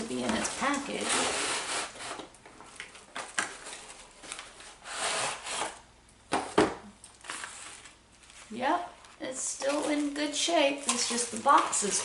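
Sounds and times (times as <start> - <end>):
cardboard and plastic rustling: 0.0 - 12.0.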